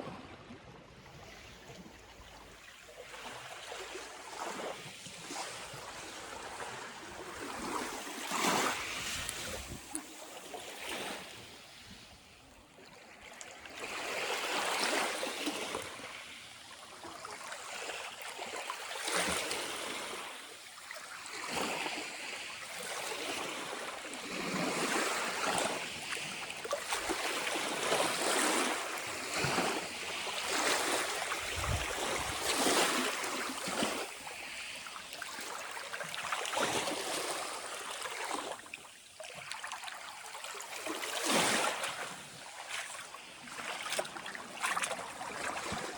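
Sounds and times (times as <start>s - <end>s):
waves lapping against shore: 0.0s - 45.9s.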